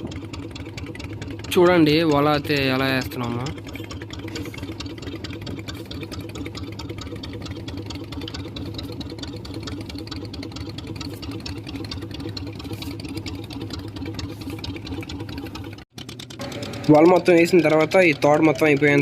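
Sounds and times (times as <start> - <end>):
boat engine running with rattle: 0.0 - 19.0.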